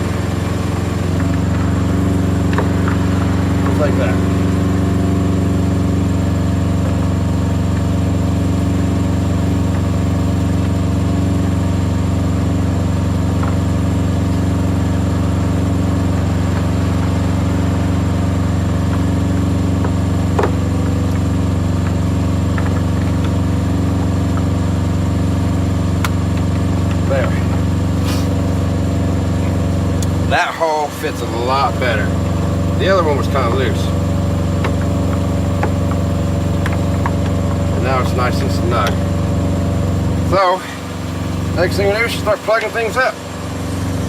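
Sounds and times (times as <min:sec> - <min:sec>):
diesel truck engine idling: 0:00.0 - 0:44.0.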